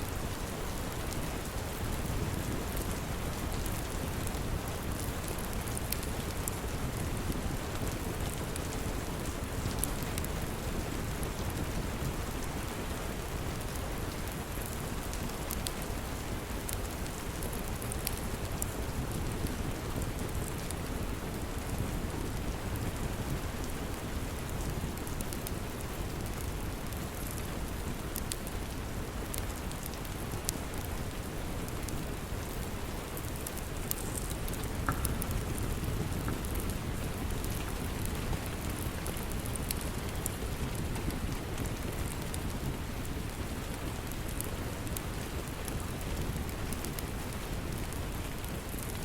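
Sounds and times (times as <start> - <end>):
steady rain: 0.0 - 49.0
wood fire crackling: 0.0 - 49.0.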